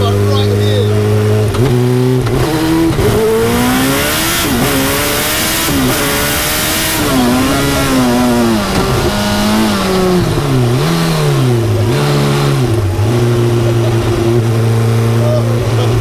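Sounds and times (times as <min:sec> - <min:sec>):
engine running under load: 0:00.0 - 0:16.0
wind and road noise: 0:00.0 - 0:16.0.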